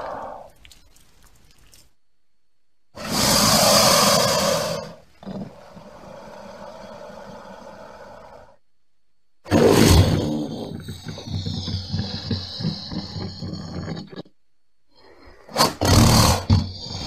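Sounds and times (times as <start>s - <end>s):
crocodile vocalising: 0.0s - 1.7s, 3.0s - 8.6s, 9.5s - 14.4s, 15.0s - 17.0s.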